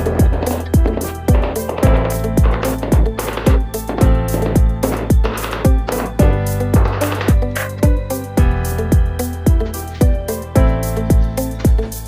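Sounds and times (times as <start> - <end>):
electronic kick-drum beat: 0.0 - 11.9.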